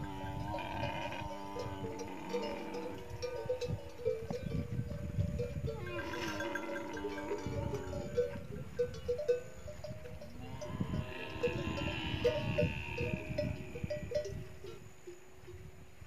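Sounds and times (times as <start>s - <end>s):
camel bells clinking: 0.0s - 16.0s.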